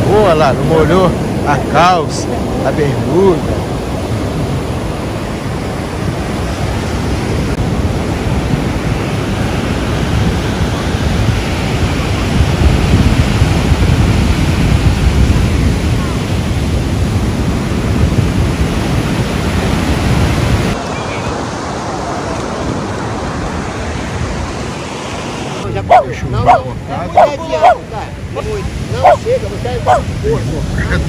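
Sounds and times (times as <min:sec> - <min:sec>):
ocean surf breaking: 0:00.0 - 0:31.0
wind rumbling on microphone: 0:00.0 - 0:31.0.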